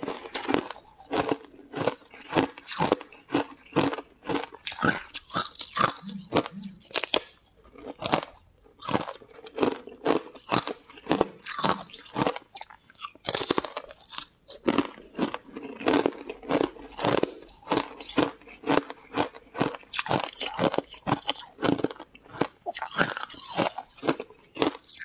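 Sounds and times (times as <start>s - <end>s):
crunching bites and chewing: 0.0s - 25.0s.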